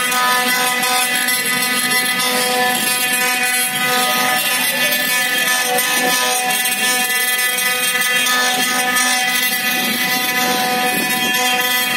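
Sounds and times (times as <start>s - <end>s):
router spindle whine: 0.0s - 11.9s.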